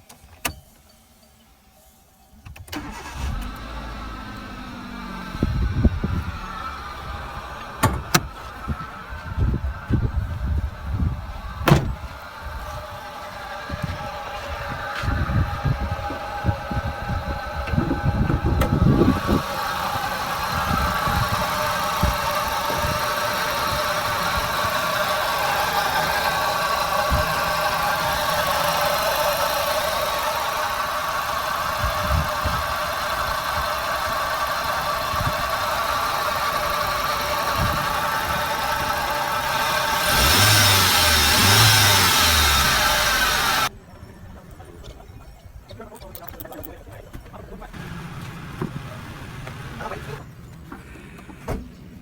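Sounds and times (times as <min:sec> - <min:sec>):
car engine idling: 0:02.7 - 0:43.7, 0:47.3 - 0:51.9
steady whine: 0:02.8 - 0:43.8, 0:47.7 - 0:50.2.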